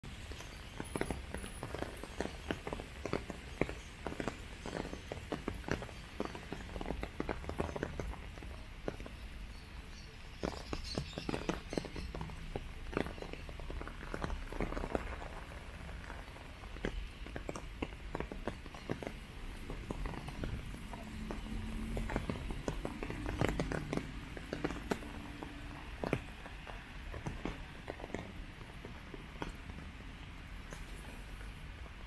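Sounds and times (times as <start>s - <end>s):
footsteps on wet pavement: 0.0s - 32.0s
raindrops pattering: 0.0s - 32.0s.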